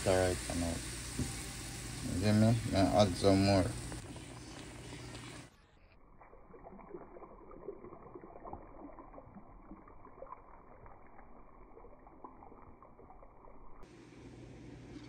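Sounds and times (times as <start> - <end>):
water pouring into hot pan: 0.0 - 13.9.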